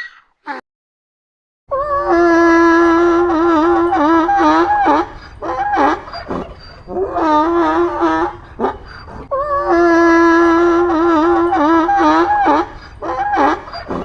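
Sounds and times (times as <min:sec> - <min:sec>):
donkey braying: 0:00.0 - 0:00.6, 0:01.7 - 0:14.0.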